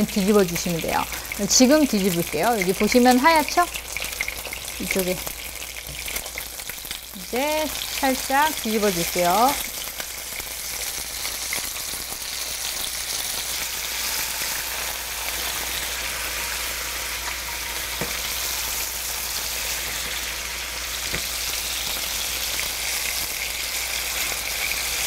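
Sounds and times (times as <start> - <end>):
chicken sizzling in a frying pan: 0.0 - 25.0.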